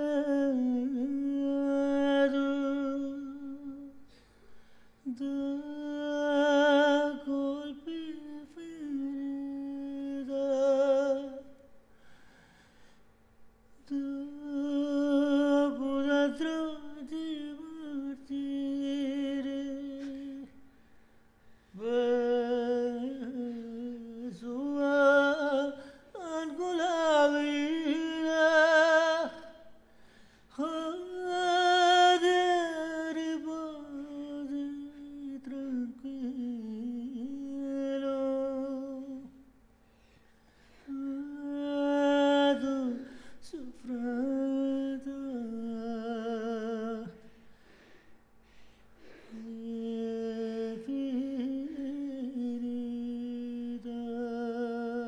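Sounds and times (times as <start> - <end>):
solo voice singing: 0.0 - 4.2, 5.0 - 11.7, 13.8 - 20.8, 21.6 - 39.5, 40.7 - 47.4, 49.0 - 55.0.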